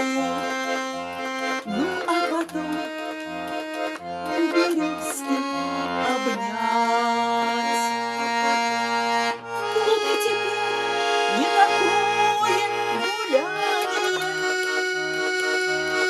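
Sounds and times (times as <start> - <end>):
button accordion playing: 0.0 - 16.0.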